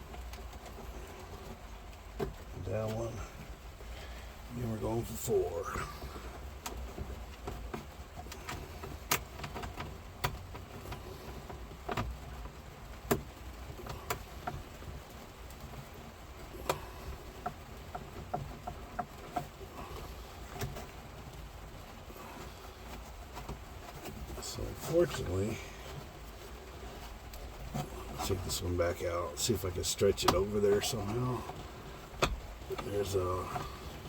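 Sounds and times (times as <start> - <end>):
steady low hum: 0.0 - 12.9, 13.6 - 34.0
light clicks and taps: 0.0 - 34.0.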